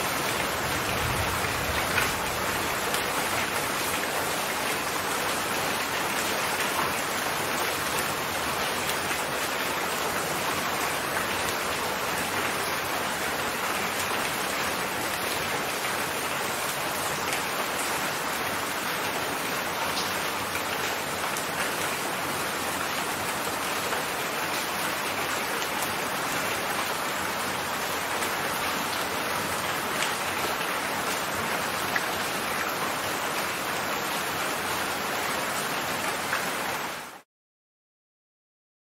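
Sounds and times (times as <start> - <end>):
steady rain falling: 0.0 - 37.2.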